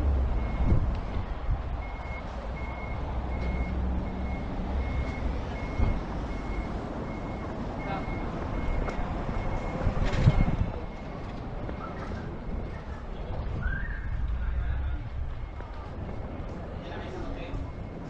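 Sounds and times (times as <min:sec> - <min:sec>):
engine rumble: 0:00.0 - 0:18.0
reversing beeper: 0:01.8 - 0:18.0.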